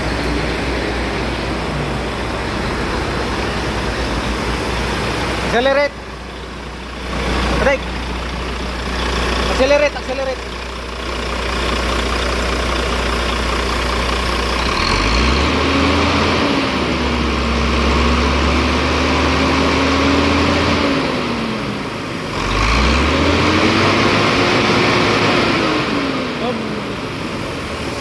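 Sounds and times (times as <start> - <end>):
truck diesel engine revving: 0.0 - 28.0.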